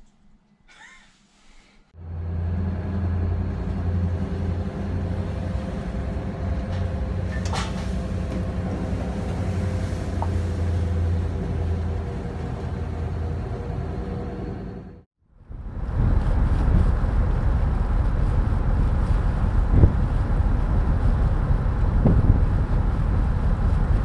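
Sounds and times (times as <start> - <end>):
boat engines droning: 2.0 - 24.0.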